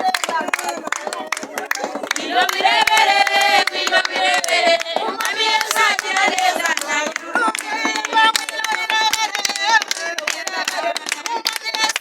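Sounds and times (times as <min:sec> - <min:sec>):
group singing a worship song: 0:00.0 - 0:12.0
hand clapping: 0:00.0 - 0:12.0.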